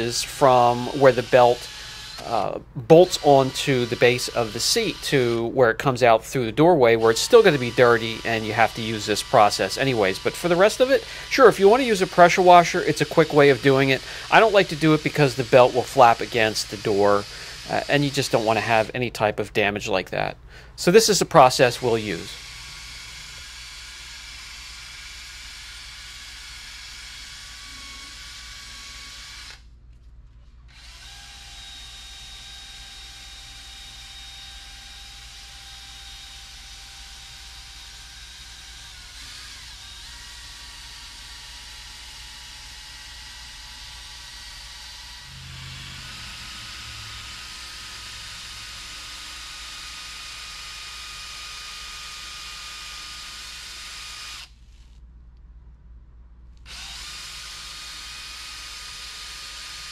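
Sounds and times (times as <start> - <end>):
cordless drill motor whine: 0.3 - 5.1, 7.0 - 18.9, 21.8 - 29.6, 30.7 - 55.0, 56.6 - 59.9.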